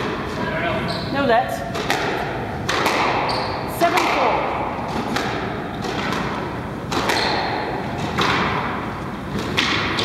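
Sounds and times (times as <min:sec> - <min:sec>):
squash ball thuds echoing: 0:00.0 - 0:10.0.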